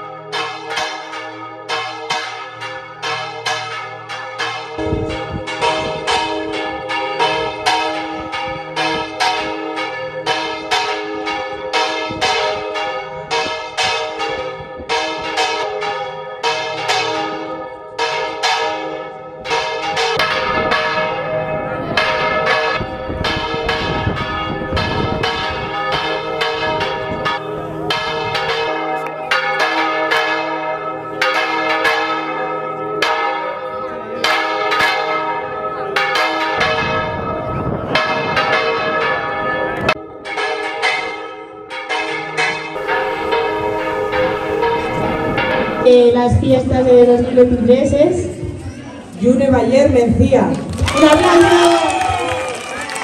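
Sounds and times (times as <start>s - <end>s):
church bells ringing: 0.0s - 53.0s.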